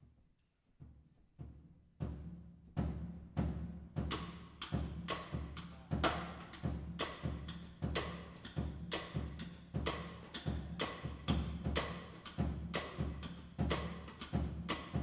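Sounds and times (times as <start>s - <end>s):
drum kit toms played with sticks: 1.4s - 15.0s.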